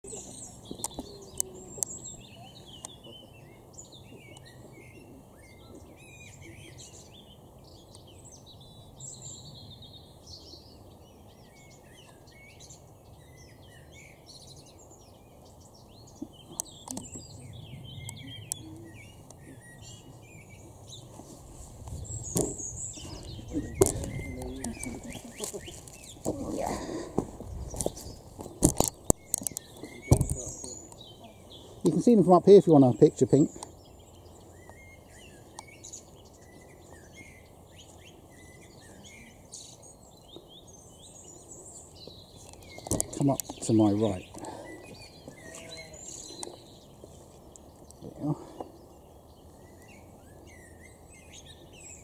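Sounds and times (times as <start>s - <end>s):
birds singing and calling: 0.0s - 52.0s.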